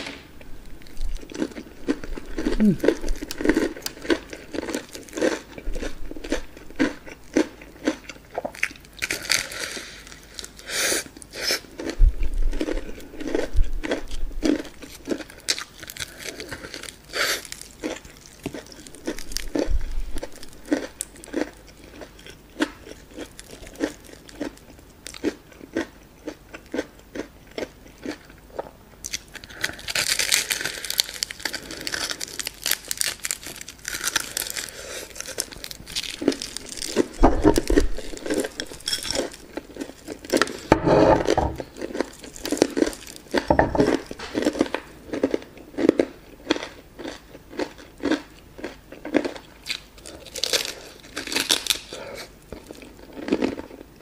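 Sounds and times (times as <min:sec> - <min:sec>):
chewing crunchy fried chicken: 0:00.8 - 0:54.0.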